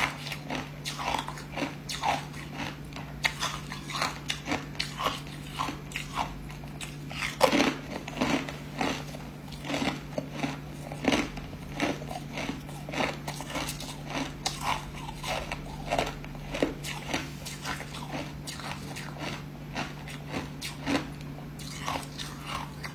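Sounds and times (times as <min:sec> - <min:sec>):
ice being chewed: 0:00.0 - 0:22.9
steady low hum: 0:00.0 - 0:22.9.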